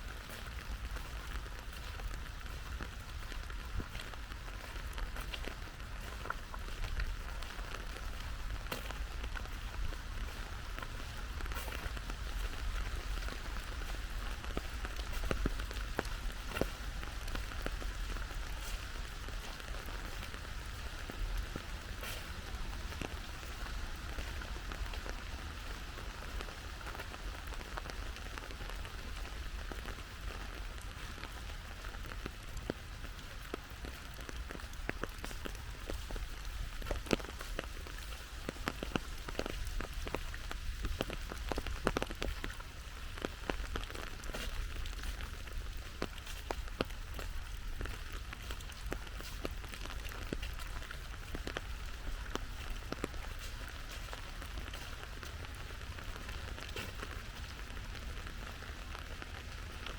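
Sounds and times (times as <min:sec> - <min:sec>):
raindrops tapping close by: 0:00.0 - 0:59.9
steady rain hissing: 0:00.0 - 0:59.9.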